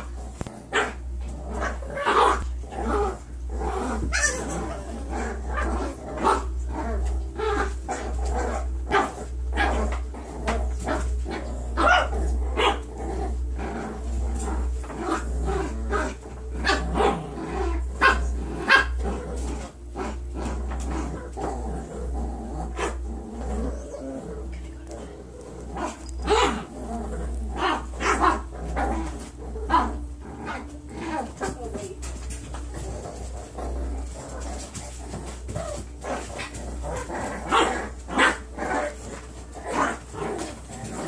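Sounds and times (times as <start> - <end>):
puppies barking and yipping: 0.0 - 21.4, 25.7 - 26.7, 27.3 - 41.0.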